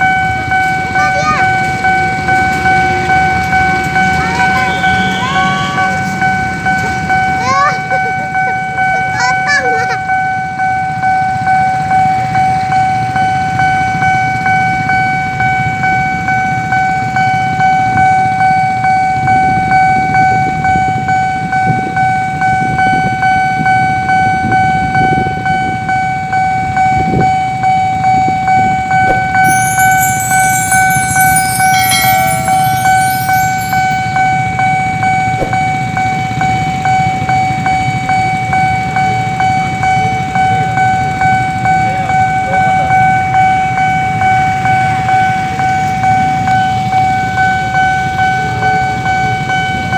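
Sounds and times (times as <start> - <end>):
railroad crossing bell ringing: 0.0 - 49.9.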